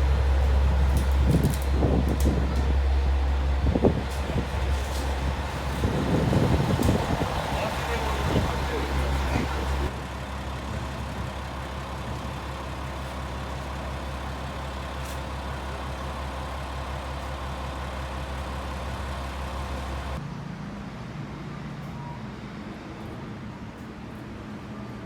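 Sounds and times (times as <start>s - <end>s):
railcar engine drone: 0.0s - 25.0s.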